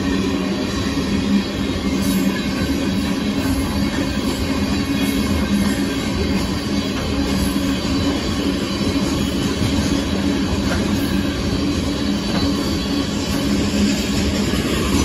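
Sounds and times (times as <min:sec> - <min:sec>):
train wheels clattering on rail: 0:00.0 - 0:15.0.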